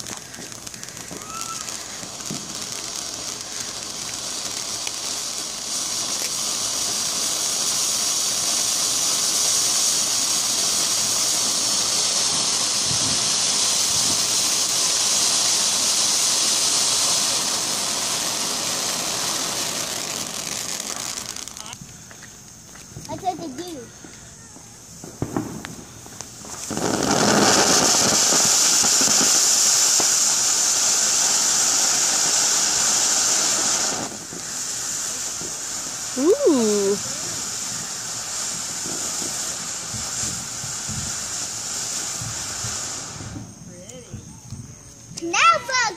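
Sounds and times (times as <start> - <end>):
firework fountain hissing: 0.0 - 45.9.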